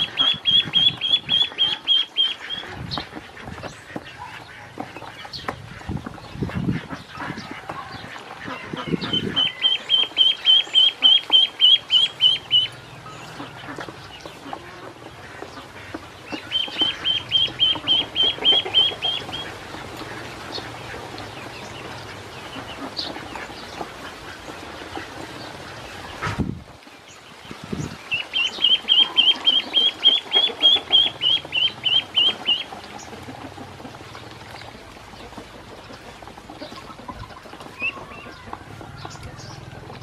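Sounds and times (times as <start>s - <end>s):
ducklings peeping: 0.0s - 40.0s
small water splashes: 0.0s - 40.0s.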